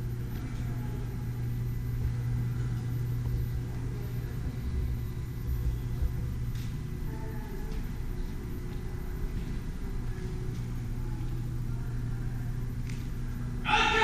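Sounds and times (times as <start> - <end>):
steady low hum and rumble: 0.0 - 14.0.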